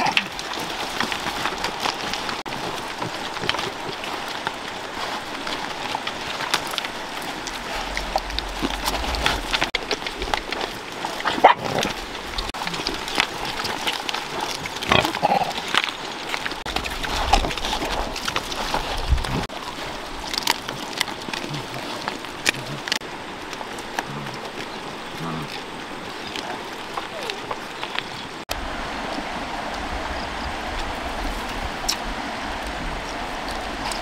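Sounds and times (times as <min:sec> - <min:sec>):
animals chewing and smacking: 0:00.0 - 0:34.0.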